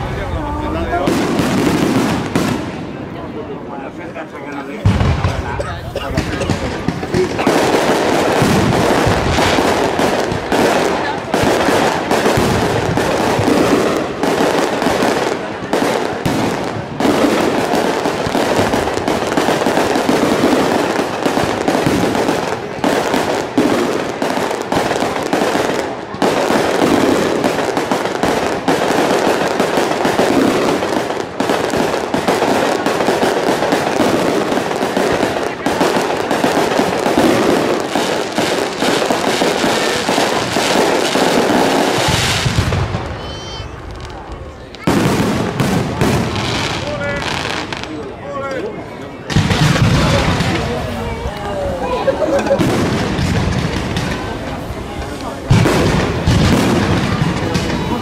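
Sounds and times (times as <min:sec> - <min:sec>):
crackling firework stars: 0:00.0 - 0:58.0.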